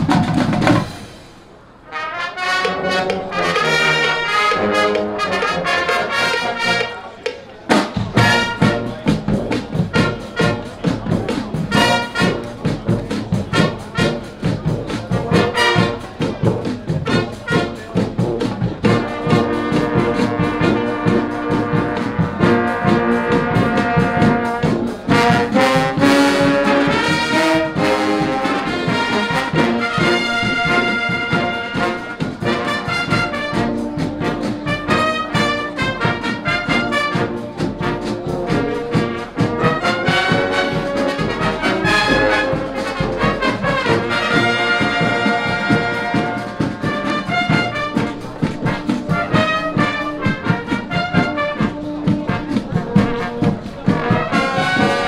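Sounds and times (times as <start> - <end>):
steady drum beat: 0.0 - 1.5, 2.4 - 55.0
brass band playing: 0.0 - 55.0.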